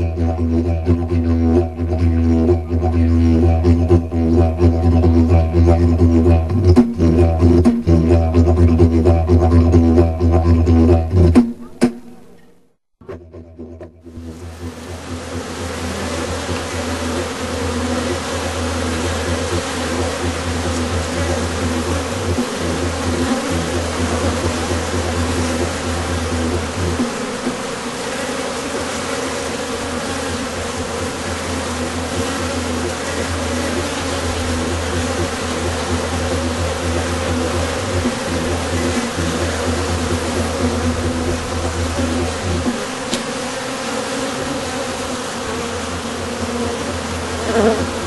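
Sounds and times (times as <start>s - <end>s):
yellowjackets buzzing: 0.0s - 12.1s, 13.7s - 48.0s.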